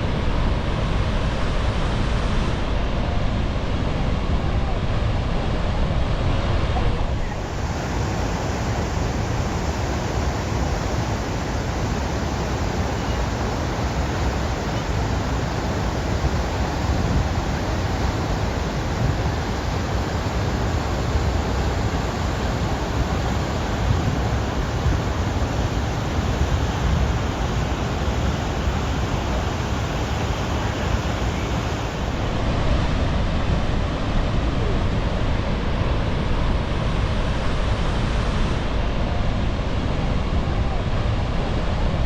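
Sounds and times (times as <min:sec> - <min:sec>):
floodwater rushing roar: 0:00.0 - 0:42.0.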